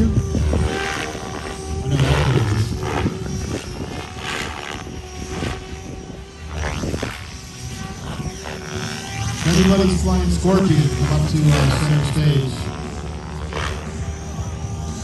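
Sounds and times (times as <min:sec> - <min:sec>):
model helicopter whine: 0:00.0 - 0:15.0.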